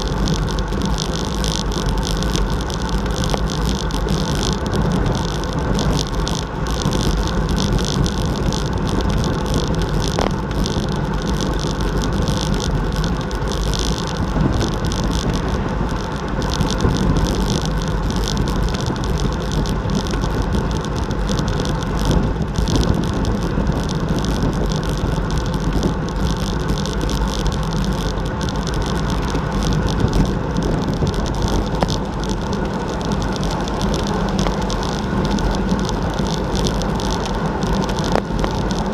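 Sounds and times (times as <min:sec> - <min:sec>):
bicycle tyre noise: 0:00.0 - 0:38.9
wind rushing over microphone: 0:00.0 - 0:38.9.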